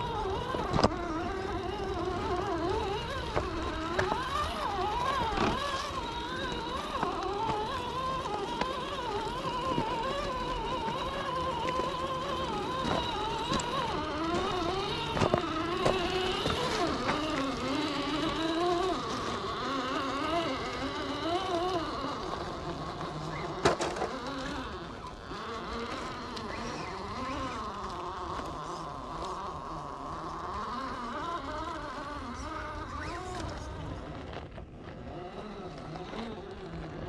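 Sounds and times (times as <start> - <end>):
rc truck electric motor whining: 0.0 - 37.0.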